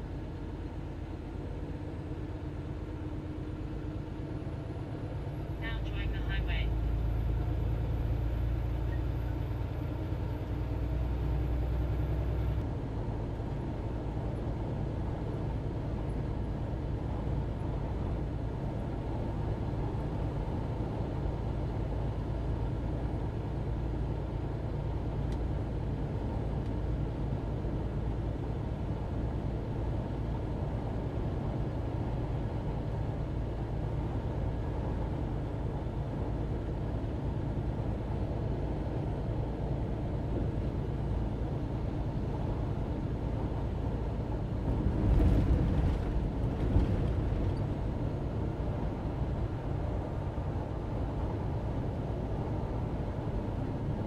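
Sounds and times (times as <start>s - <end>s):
truck engine and tyres droning: 0.0s - 54.0s.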